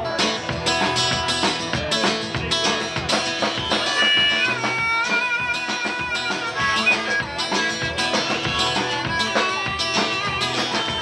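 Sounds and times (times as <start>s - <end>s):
acoustic guitar: 0.0s - 11.0s
drum kit beat: 0.0s - 11.0s.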